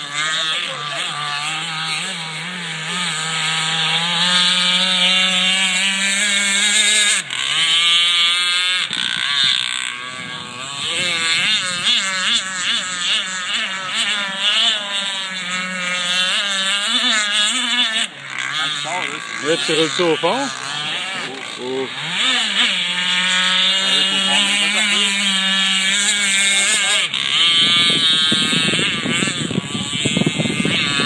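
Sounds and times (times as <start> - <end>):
model boat motor whining: 0.0 - 31.0.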